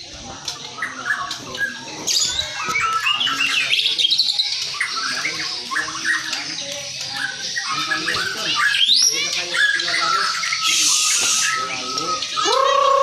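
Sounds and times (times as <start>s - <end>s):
other bird calls: 0.0s - 13.0s
songbird singing: 0.0s - 13.0s.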